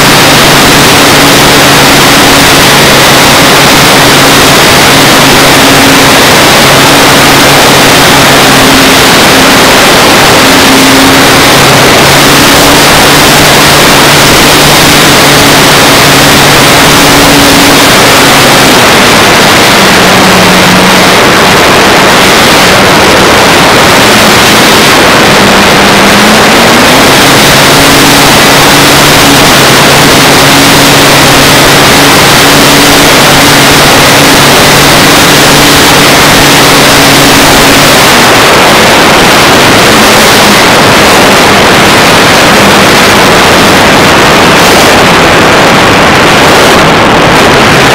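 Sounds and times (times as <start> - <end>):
loud steady hiss: 0.0 - 47.9.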